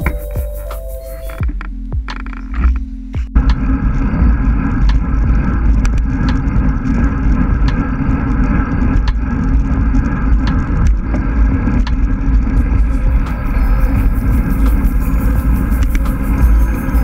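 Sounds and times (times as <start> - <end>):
wind and road rumble: 1.3 - 17.0.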